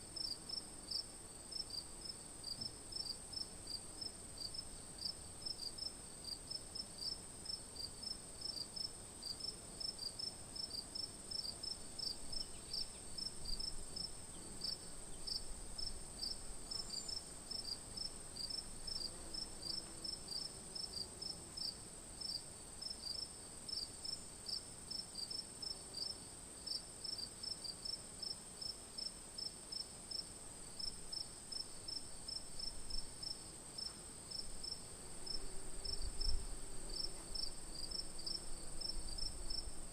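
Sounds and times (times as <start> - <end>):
cricket chirps: 0.2 - 39.9.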